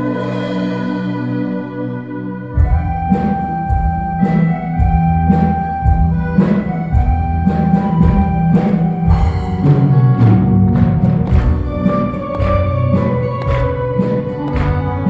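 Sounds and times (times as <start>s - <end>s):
held chords: 0.0s - 15.0s
steady drum beat: 2.5s - 15.0s.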